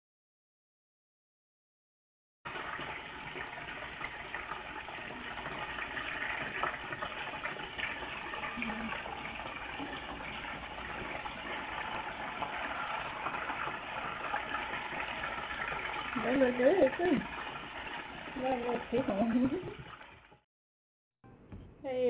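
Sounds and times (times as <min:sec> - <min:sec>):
deep-frying oil sizzling: 0:02.5 - 0:20.4.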